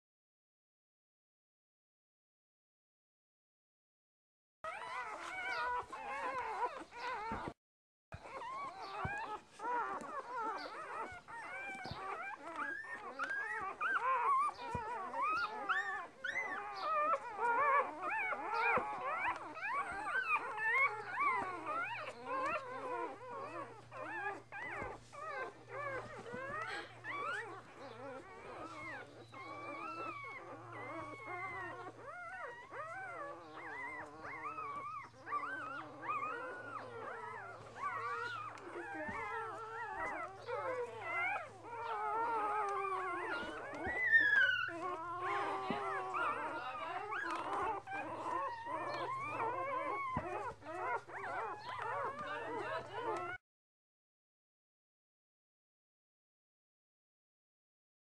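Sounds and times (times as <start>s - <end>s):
puppies squeaking and whimpering: 4.7s - 7.6s, 8.2s - 53.4s.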